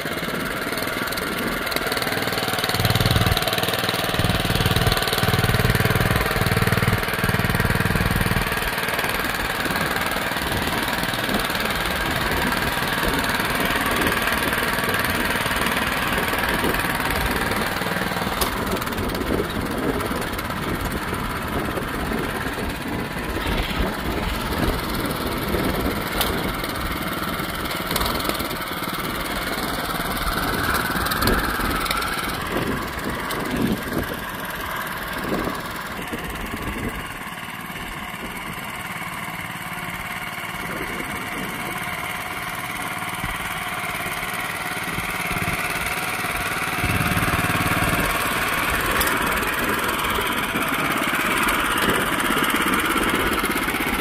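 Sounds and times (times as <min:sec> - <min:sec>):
tiller petrol engine running: 0:00.0 - 0:54.0.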